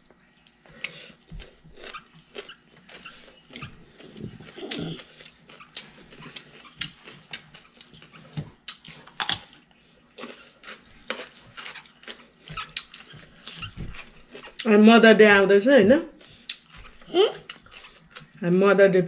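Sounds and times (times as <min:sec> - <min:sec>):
chewing and lip smacks: 0:00.1 - 0:14.7, 0:16.2 - 0:18.4.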